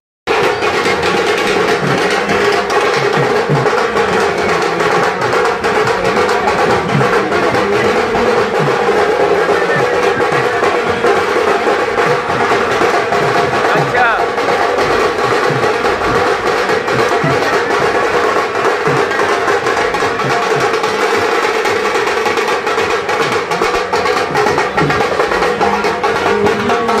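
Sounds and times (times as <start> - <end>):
loud drum music: 0.3 - 27.0.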